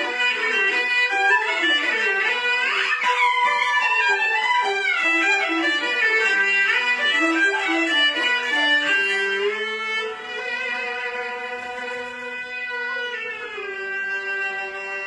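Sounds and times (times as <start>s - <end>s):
bowed fiddle melody: 0.0s - 15.0s.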